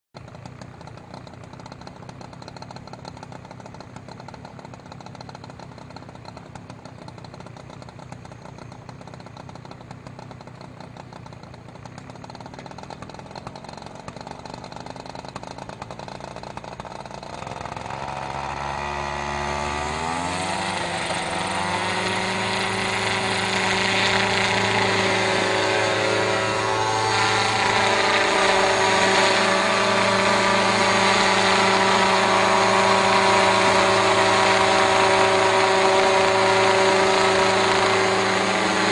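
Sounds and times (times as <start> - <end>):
model helicopter engine: 0.2 - 38.9.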